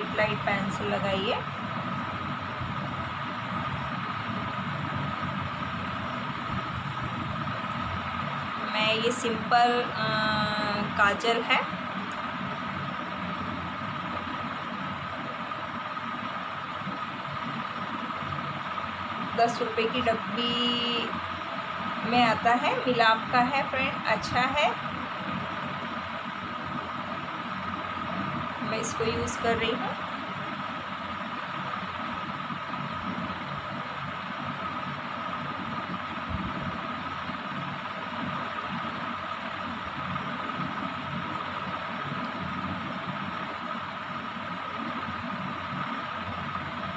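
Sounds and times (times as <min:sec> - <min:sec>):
electric fan humming: 0:00.0 - 0:46.9
high whine: 0:00.0 - 0:46.9.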